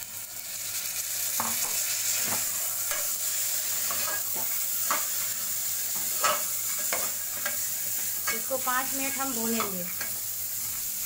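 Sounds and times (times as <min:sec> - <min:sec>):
chickpeas sizzling in oil: 0:00.0 - 0:11.0.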